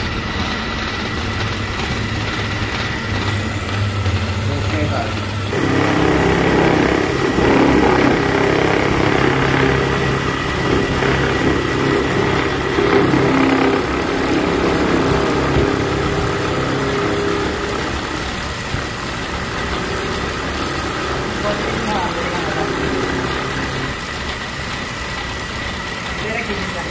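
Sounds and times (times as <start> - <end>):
lathe motor humming: 0.0 - 26.9.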